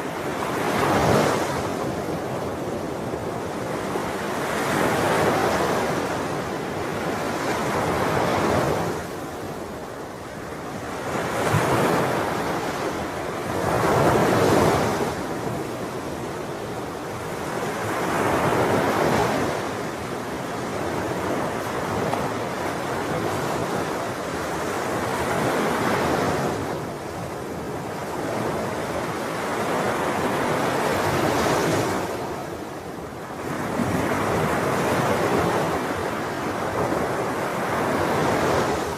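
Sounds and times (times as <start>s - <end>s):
ocean waves breaking on shore: 0.0s - 38.9s
wind on microphone: 0.0s - 38.9s.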